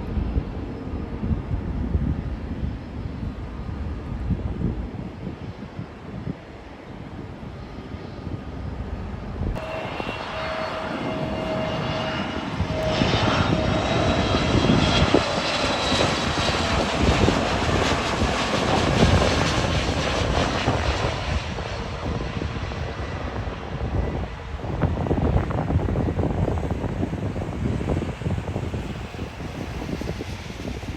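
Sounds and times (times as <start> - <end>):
jet engines roaring past: 0.0 - 30.9.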